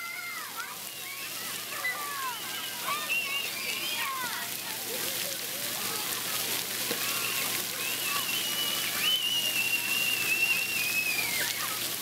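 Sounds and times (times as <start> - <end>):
water spraying and pattering: 0.0 - 12.0.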